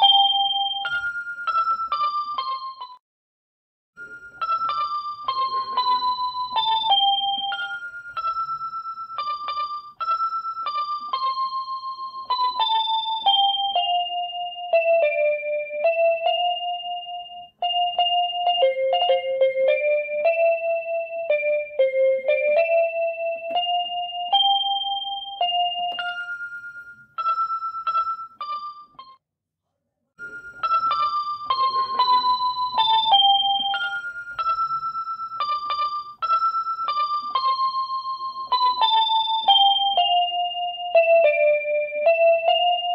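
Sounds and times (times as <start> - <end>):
keyboard melody: 0.0 - 3.0, 4.0 - 29.2, 30.2 - 42.9.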